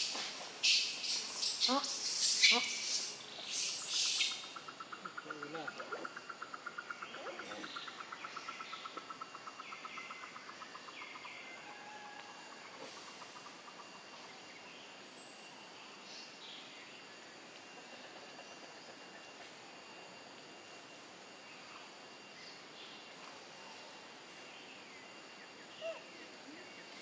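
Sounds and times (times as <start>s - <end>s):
faint background hiss: 0.0s - 27.0s
insect pulsing trill: 0.0s - 27.0s.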